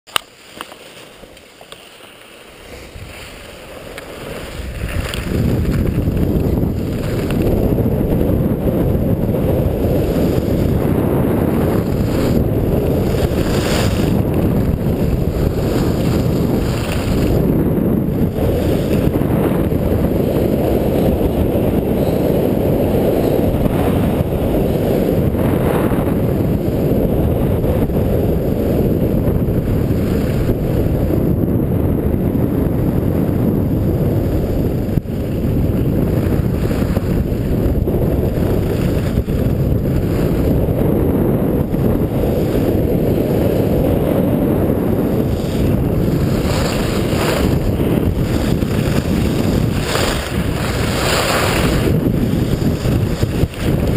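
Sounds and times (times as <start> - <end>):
skis scraping on snow: 0.1 - 31.3, 33.1 - 53.9
wind rushing over microphone: 2.4 - 53.9.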